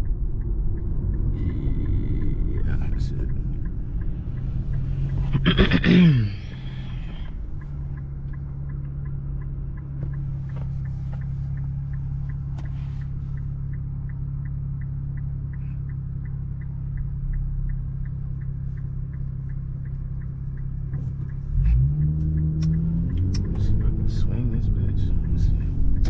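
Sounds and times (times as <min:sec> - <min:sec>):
car engine idling: 0:00.0 - 0:26.0
turn signal ticking: 0:00.0 - 0:26.0.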